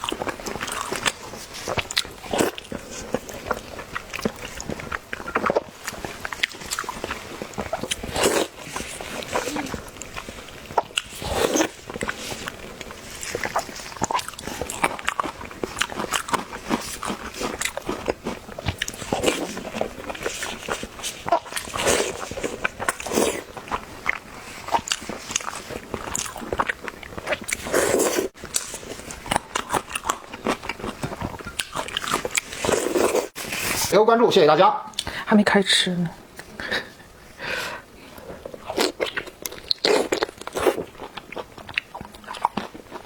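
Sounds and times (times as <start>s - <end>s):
person chewing crunchy food: 0.0s - 33.8s, 38.1s - 43.0s.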